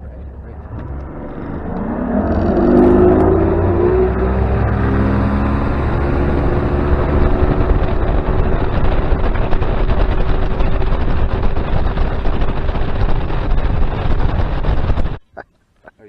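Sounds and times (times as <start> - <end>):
water noise: 0.0 - 15.1
outboard motor running: 0.0 - 15.2
rushing wind: 0.5 - 15.2.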